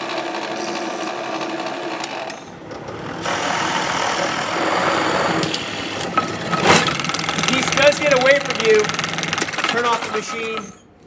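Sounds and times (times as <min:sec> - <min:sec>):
drill bit boring into wood: 0:00.0 - 0:10.8
drill press motor hum: 0:00.0 - 0:10.8.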